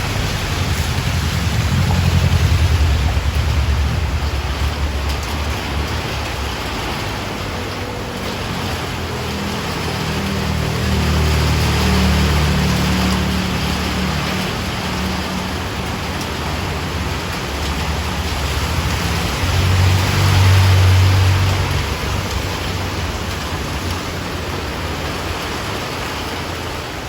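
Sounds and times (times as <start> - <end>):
steady rain: 0.0 - 27.0
vehicles passing: 0.0 - 27.0.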